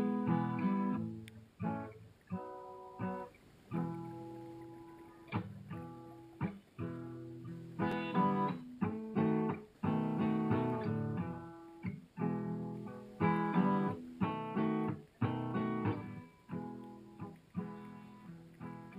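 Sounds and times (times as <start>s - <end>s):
acoustic guitar strumming chords: 0.0s - 18.9s.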